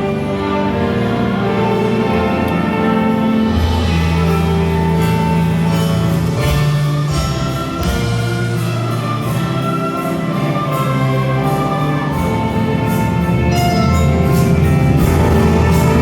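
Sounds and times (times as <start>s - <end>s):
orchestra playing slow chords: 0.0s - 16.0s.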